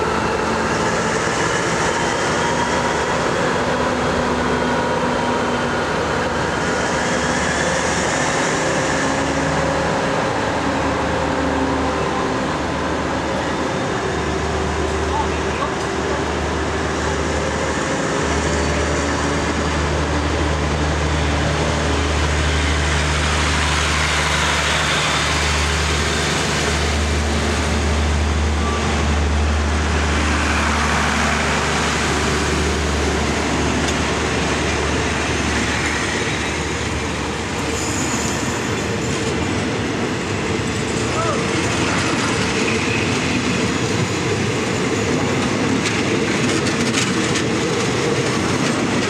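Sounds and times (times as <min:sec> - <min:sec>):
diesel locomotive engine drone: 0:00.0 - 0:49.0
rail and wheel noise: 0:00.0 - 0:49.0.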